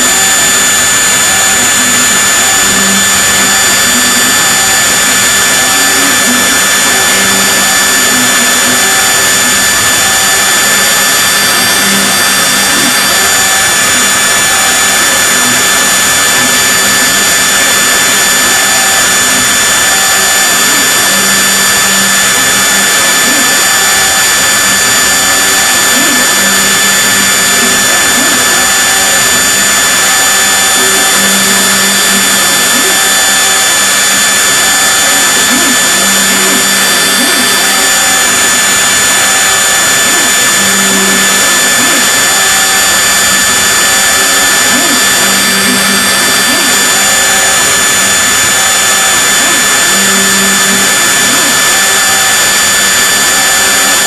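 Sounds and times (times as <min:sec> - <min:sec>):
milling machine spindle whine: 0:00.0 - 0:54.0.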